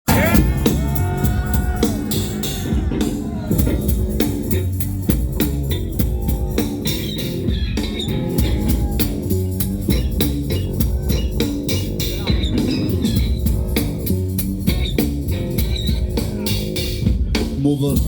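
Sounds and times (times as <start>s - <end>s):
heavy bass line: 0.0s - 18.0s
rock band playing: 0.0s - 18.0s.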